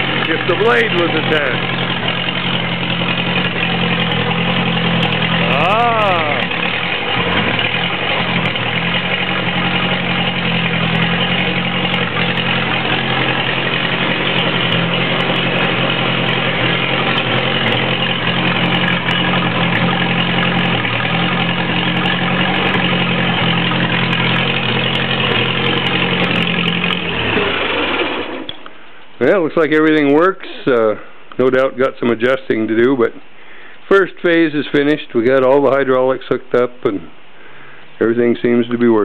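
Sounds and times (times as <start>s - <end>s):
tractor engine idling: 0.0s - 31.5s.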